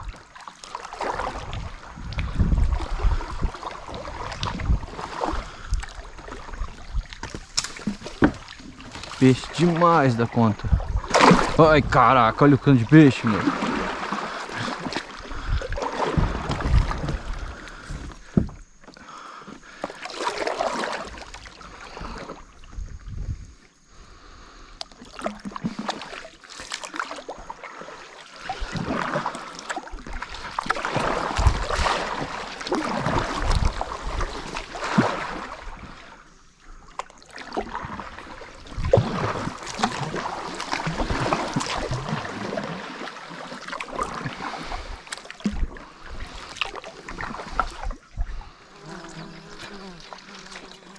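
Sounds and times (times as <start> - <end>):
paddle strokes in water: 0.0 - 22.9, 23.9 - 50.9.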